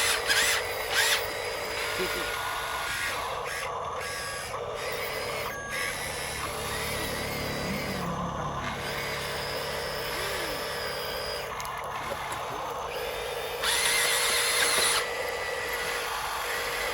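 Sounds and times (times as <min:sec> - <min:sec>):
small electric motor whining: 0:00.0 - 0:16.9.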